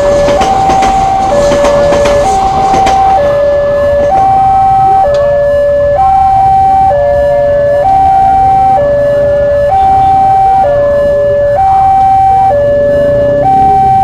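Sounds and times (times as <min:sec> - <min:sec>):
two-tone crossing alarm: 0:00.0 - 0:14.0.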